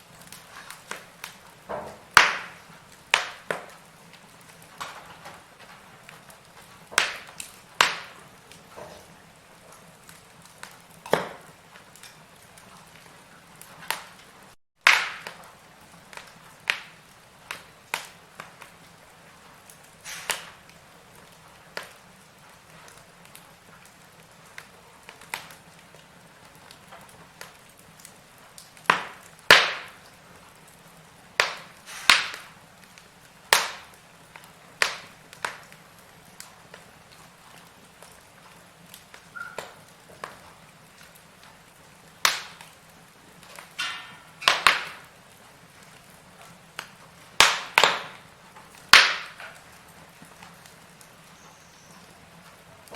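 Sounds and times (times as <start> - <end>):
firewood crackling and popping: 0.0 - 52.9
soft steady fire hiss: 0.0 - 52.9.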